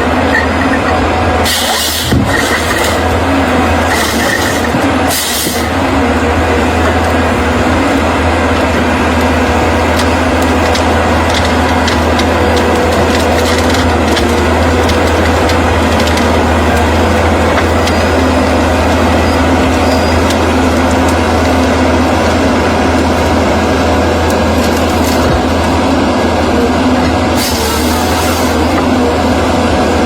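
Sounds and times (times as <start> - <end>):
heavy machine engine running: 0.0 - 30.0
wood cracking and splintering: 1.5 - 29.6.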